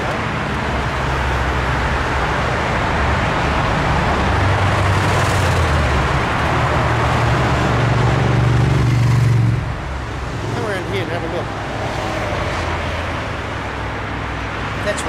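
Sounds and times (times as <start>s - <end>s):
deep engine drone: 0.0s - 13.7s
bus passing: 0.0s - 15.0s
road traffic passing: 0.0s - 15.0s.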